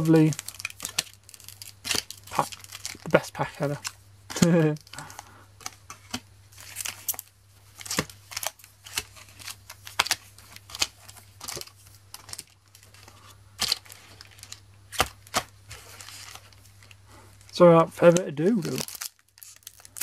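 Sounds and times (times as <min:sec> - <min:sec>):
foil wrappers crinkling: 0:00.0 - 0:20.0.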